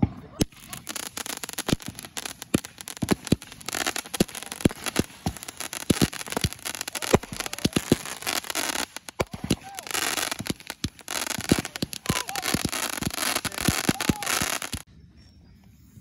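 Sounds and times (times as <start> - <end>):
fireworks pops and bangs: 0.0 - 14.9
fireworks crackle: 0.3 - 14.9.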